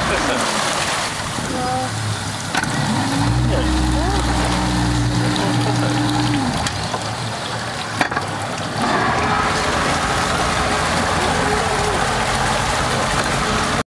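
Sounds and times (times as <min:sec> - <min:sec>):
speedboat engine at low speed: 0:00.0 - 0:13.8
water washing along hull: 0:00.0 - 0:13.8.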